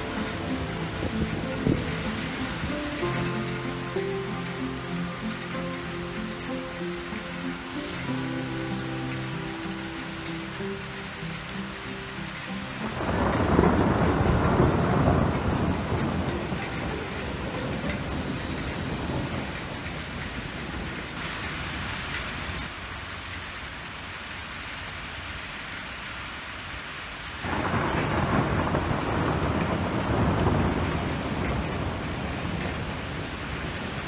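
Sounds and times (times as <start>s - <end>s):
hail and rain pelting down: 0.0s - 34.0s.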